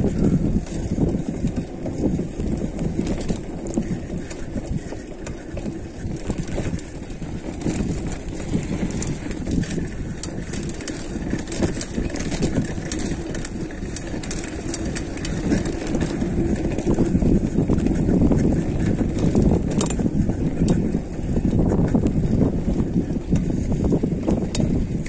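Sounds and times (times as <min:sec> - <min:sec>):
bike rattling on rough ground: 0:00.0 - 0:25.0
bike tyre noise: 0:00.0 - 0:25.0
wind buffeting microphone: 0:00.0 - 0:25.0.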